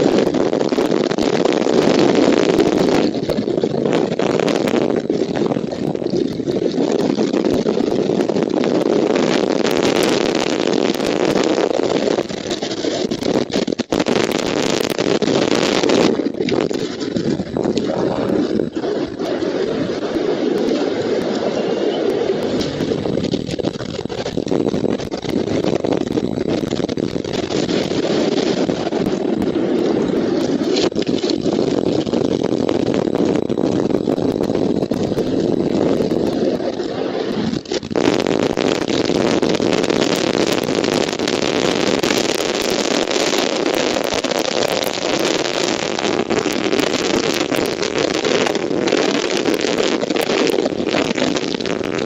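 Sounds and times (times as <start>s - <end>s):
strong wind on microphone: 0.0s - 52.0s.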